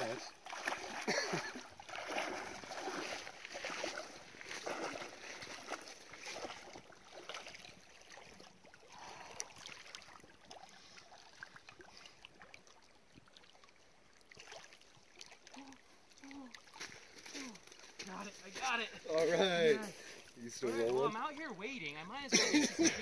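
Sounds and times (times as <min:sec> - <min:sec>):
water splashing around wading legs: 0:00.0 - 0:21.8.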